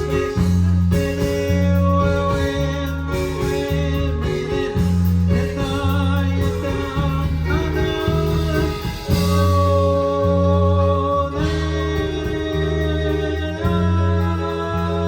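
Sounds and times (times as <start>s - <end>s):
deep bass notes: 0.0s - 15.0s
guitar: 0.0s - 15.0s
live rock band playing: 0.0s - 15.0s.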